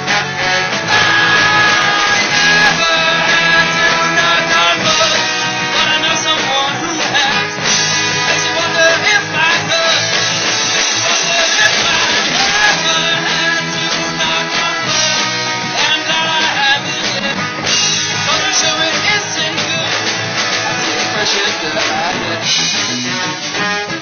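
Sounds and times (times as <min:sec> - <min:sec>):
live rock band playing: 0:00.0 - 0:24.0
person singing: 0:00.0 - 0:24.0.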